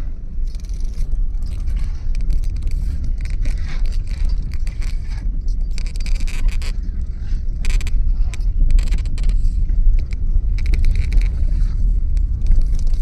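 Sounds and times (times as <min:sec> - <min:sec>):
car rumbling on gravel road: 0:00.0 - 0:13.0
gravel scraping and crackling: 0:00.0 - 0:13.0.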